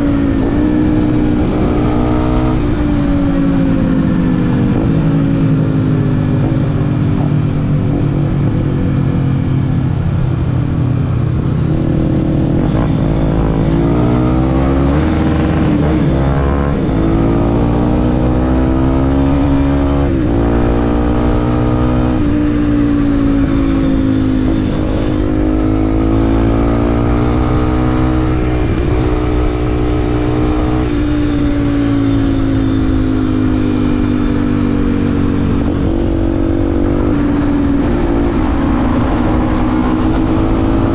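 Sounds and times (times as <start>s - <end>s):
motorcycle engine accelerating: 0.0s - 40.9s
rushing wind: 0.0s - 40.9s.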